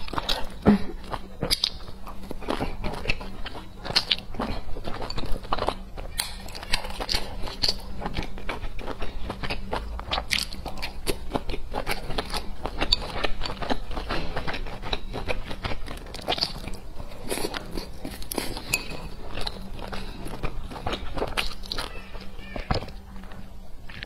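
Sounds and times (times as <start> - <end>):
close chewing mouth clicks: 0.0 - 24.0.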